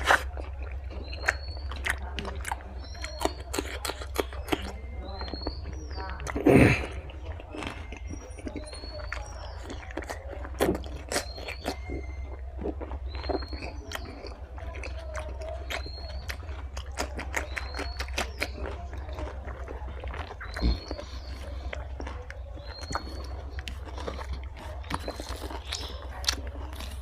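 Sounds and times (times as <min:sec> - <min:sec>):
chewing and biting food: 0:00.0 - 0:27.0
mouth clicks and smacks: 0:00.0 - 0:27.0.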